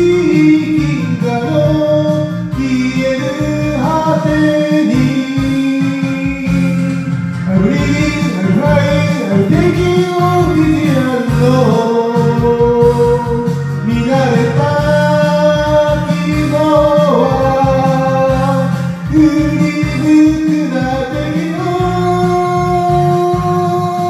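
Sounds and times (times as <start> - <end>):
karaoke backing track: 0.0 - 24.0
person singing: 0.0 - 24.0.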